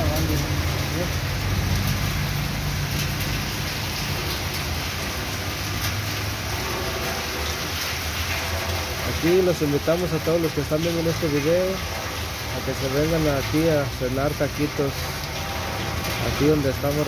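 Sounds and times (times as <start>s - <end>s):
heavy rain on metal roof: 0.0s - 17.0s.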